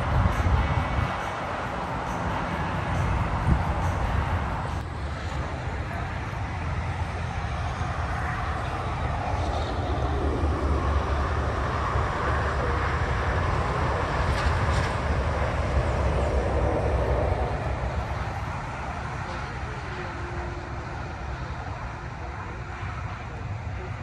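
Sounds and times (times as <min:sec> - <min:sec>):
highway traffic passing: 0:00.0 - 0:24.0.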